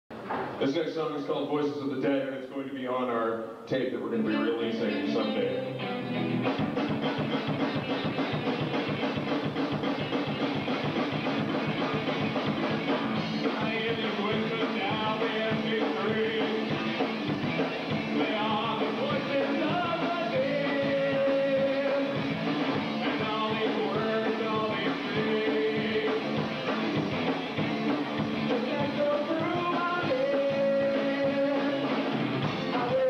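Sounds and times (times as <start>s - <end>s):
live rock band playing: 4.2s - 33.0s.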